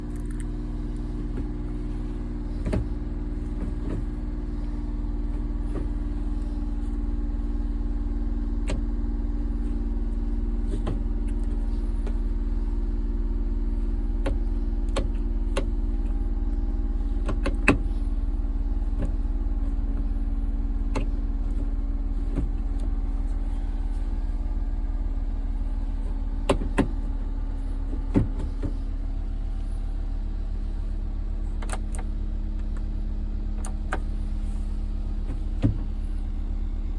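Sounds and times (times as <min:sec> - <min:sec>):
small truck engine running: 0:00.0 - 0:36.9.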